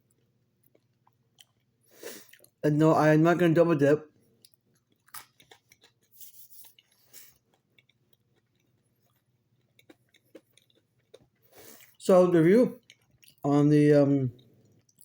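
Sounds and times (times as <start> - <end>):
soft crunches of chewing fries: 0.0 - 2.6, 4.1 - 15.0.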